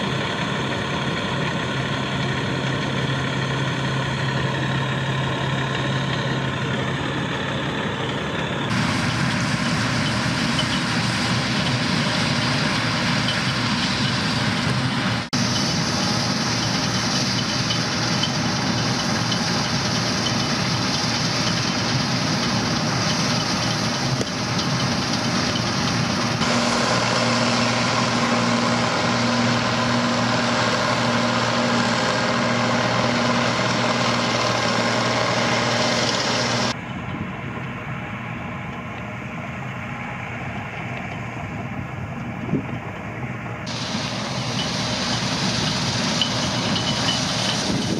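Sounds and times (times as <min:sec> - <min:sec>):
combine harvester machinery running: 0:00.0 - 0:47.9
steady engine hum: 0:00.0 - 0:47.9.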